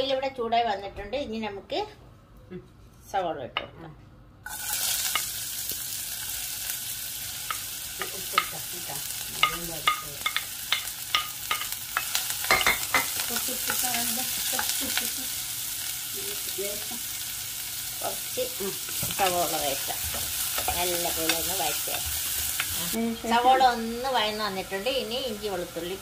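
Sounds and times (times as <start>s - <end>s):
onions sizzling in oil: 4.4s - 26.0s.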